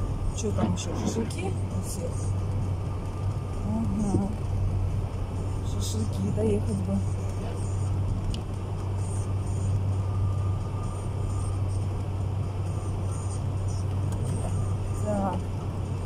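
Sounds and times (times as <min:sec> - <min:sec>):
car engine and tyres on road: 0:00.0 - 0:16.0.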